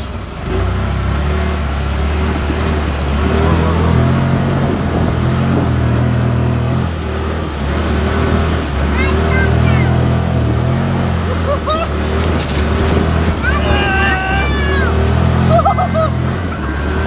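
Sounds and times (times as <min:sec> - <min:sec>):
off-road vehicle engine revving: 0:00.0 - 0:17.0
steady rushing noise: 0:00.0 - 0:17.0.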